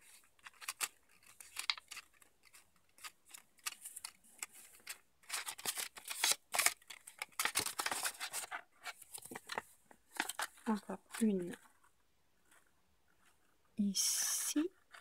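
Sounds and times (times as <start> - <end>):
paper crinkling and rustling: 0.0 - 13.5.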